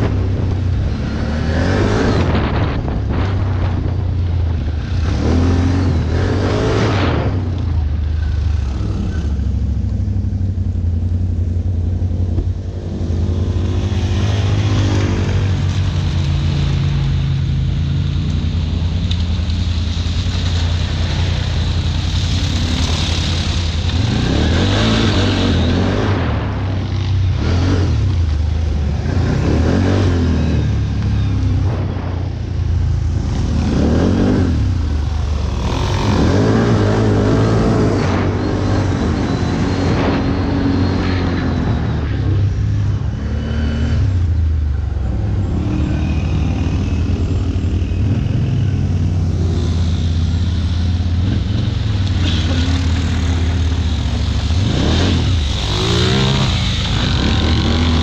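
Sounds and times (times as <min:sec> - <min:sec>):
atv engines revving: 0:00.0 - 0:58.0.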